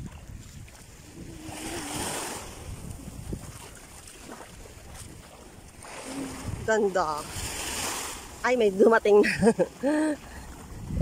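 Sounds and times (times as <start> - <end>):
wind on microphone: 0.0 - 8.3, 10.4 - 11.0
small waves lapping on shore: 0.0 - 11.0.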